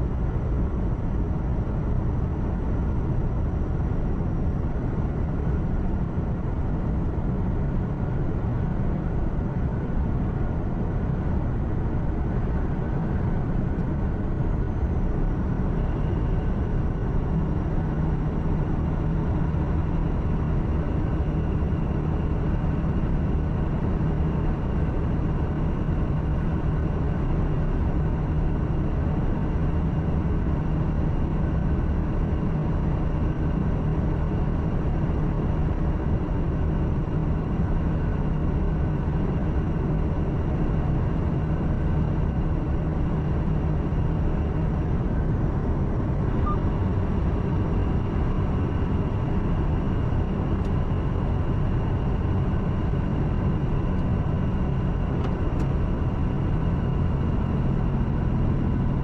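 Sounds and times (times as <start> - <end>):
diesel engine hum: 0.0 - 59.0.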